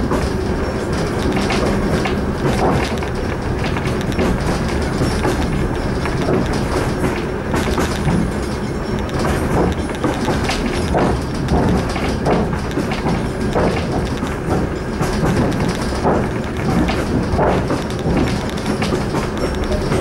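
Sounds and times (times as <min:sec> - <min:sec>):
train wheels rumbling on rail: 0:00.0 - 0:20.0
wheels clicking over track: 0:00.0 - 0:20.0.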